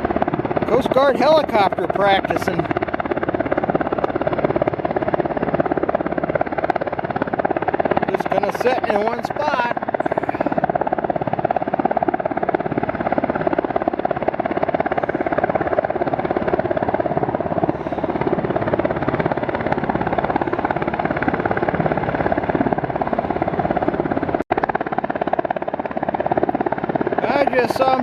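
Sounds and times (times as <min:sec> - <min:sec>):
helicopter rotor beating: 0:00.0 - 0:28.0.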